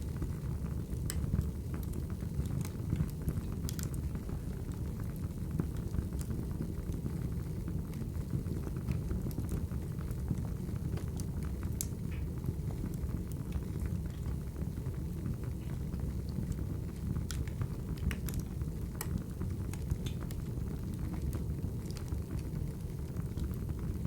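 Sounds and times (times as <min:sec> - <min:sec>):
low rumble of flames: 0:00.0 - 0:24.0
fire pops and snaps: 0:00.2 - 0:07.0, 0:07.8 - 0:14.9, 0:15.6 - 0:24.0.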